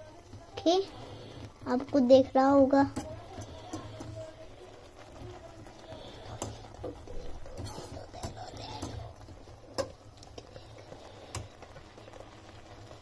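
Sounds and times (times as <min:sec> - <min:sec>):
utensil stirring noodles in pan: 0:00.0 - 0:13.0.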